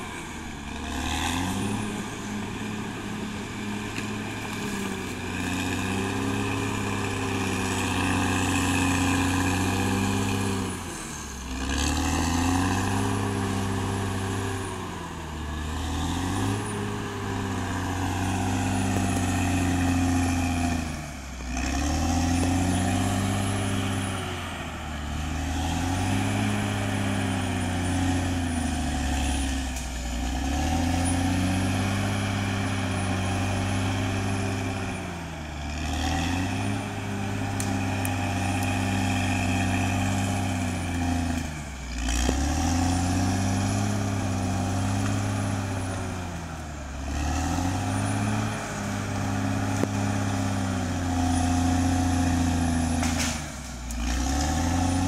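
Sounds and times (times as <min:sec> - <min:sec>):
bulldozer diesel engine lugging: 0:00.0 - 0:55.0.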